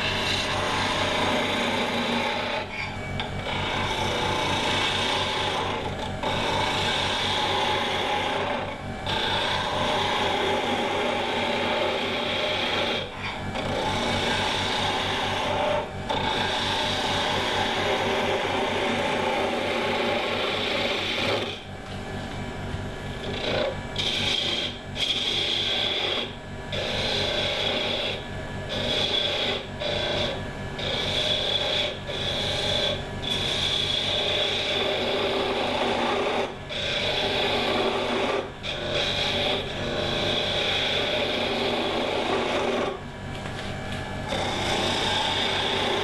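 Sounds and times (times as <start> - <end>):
gouge scraping spinning wood: 0.0 - 46.0
lathe motor hum: 0.0 - 46.0.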